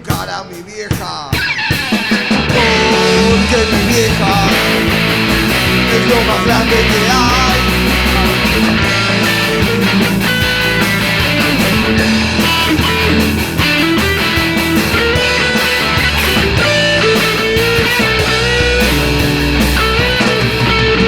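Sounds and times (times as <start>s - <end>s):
rock band playing instrumental: 0.0s - 21.0s.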